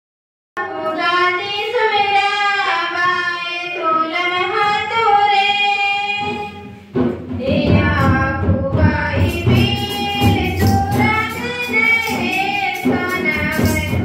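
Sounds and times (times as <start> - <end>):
girls singing together: 0.6 - 14.0.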